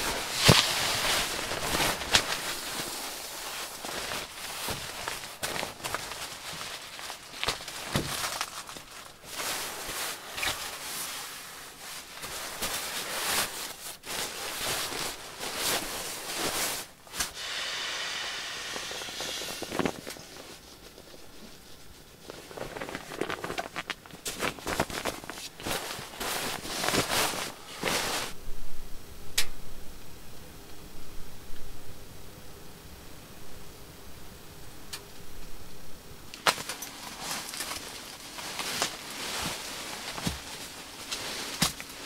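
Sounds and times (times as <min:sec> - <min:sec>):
sleeping bag rustling and swishing: 0:00.0 - 0:28.4, 0:36.4 - 0:42.0.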